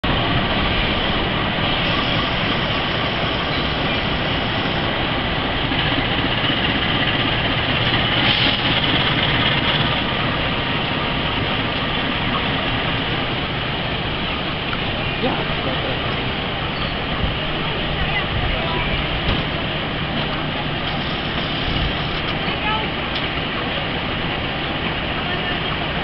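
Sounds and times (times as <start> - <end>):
diesel locomotive running: 0.0 - 26.0.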